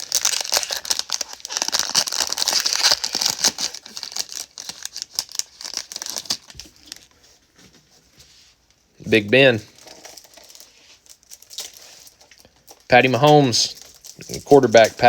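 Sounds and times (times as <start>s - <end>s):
foil wrapper crinkling and tearing: 0.0s - 7.2s, 9.6s - 15.0s.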